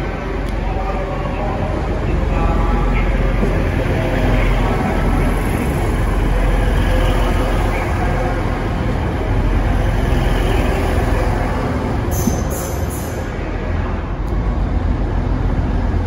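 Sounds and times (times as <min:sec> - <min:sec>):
train rolling past rumbling: 0:00.0 - 0:16.0.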